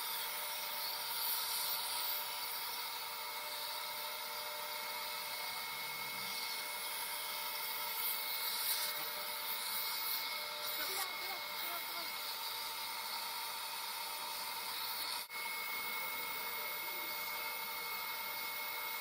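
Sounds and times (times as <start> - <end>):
dental suction hissing: 0.0 - 19.0.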